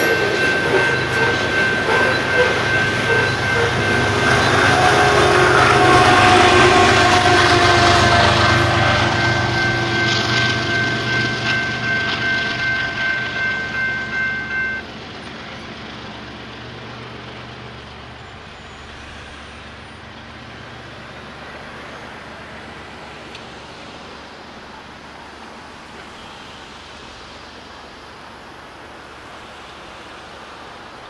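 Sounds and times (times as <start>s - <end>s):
freight train rumbling: 0.0s - 31.0s
low locomotive drone: 0.0s - 31.0s.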